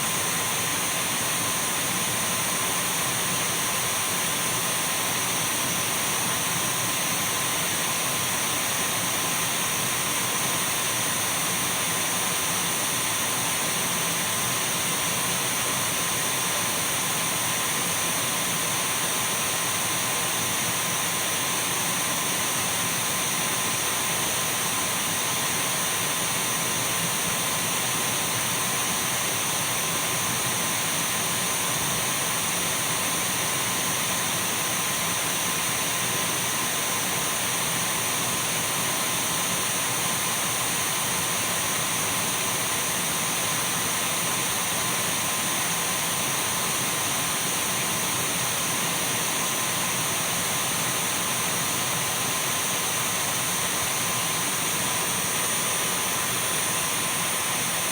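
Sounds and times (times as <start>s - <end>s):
vacuum cleaner running: 0.0s - 57.9s.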